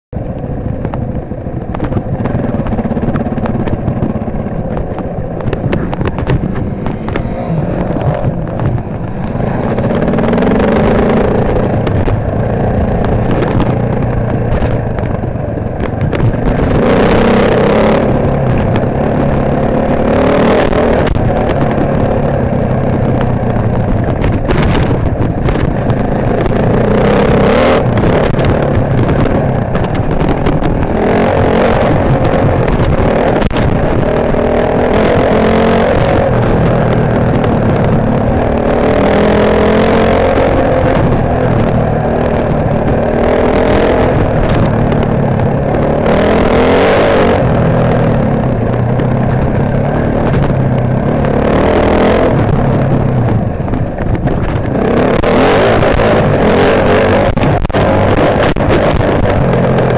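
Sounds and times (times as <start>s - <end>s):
dirt bike engine revving: 1.7s - 59.9s.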